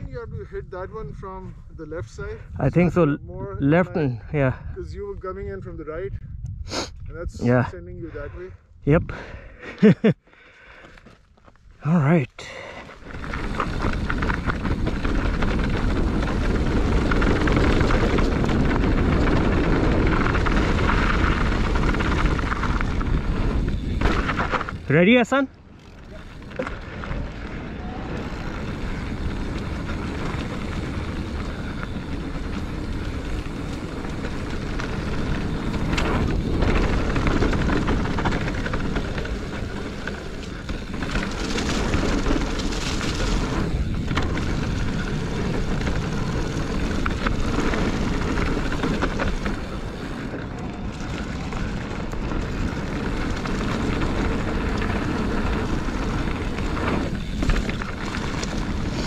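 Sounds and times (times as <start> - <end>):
wind rush over microphone: 0.0 - 9.6, 13.0 - 25.0, 25.8 - 59.0
bike tyre rumble: 0.0 - 59.0.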